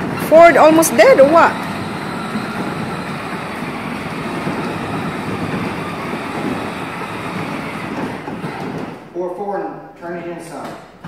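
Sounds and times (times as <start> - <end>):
plastic wheels rolling on concrete: 0.0 - 9.1
ride-on toy truck motors rumbling: 0.0 - 9.1.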